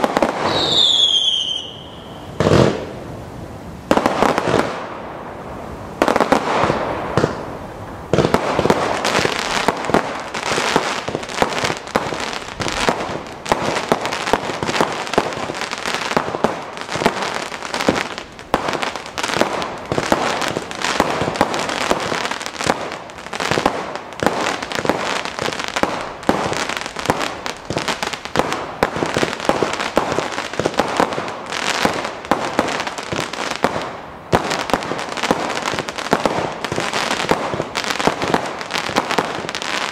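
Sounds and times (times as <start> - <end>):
fireworks launching and bursting: 0.0 - 3.2, 3.8 - 39.9
firework crackle: 0.0 - 39.9.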